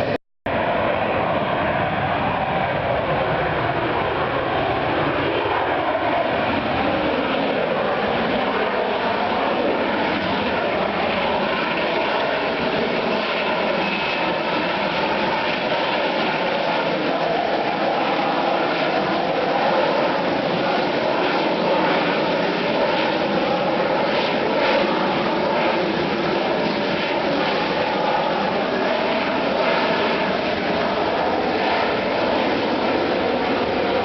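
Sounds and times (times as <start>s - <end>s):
jet engine rushing: 0.0s - 34.0s.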